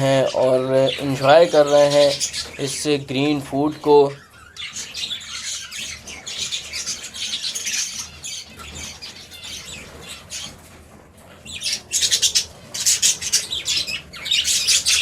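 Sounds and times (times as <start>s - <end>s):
budgerigars chattering and squawking: 0.0s - 15.0s.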